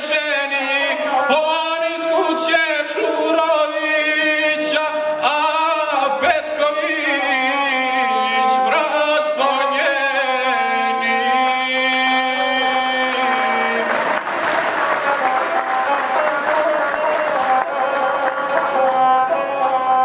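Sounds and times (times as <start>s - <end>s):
bowed folk fiddle: 0.0s - 20.0s
man singing: 0.0s - 20.0s.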